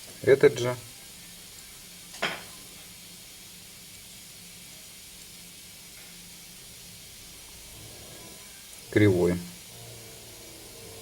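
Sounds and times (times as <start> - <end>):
low background hiss: 0.0 - 11.0.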